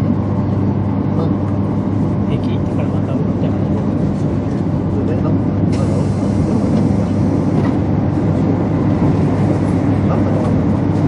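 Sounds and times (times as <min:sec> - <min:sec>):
train rumble inside cabin: 0:00.0 - 0:11.0.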